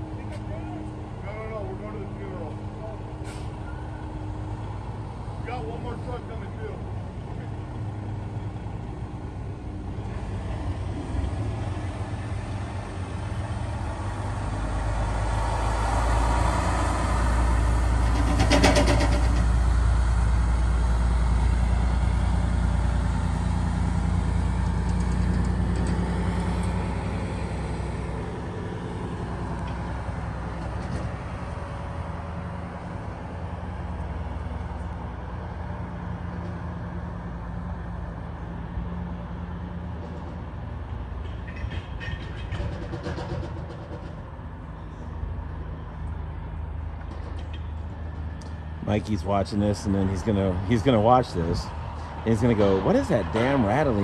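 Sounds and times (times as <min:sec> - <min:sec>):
truck engine moving off: 0:00.0 - 0:54.0.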